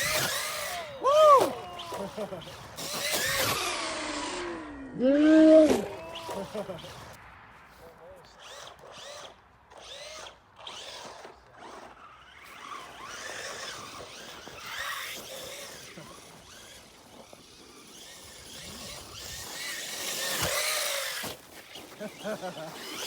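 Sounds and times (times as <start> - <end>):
electric motor whining: 0.0 - 7.2, 8.4 - 23.0.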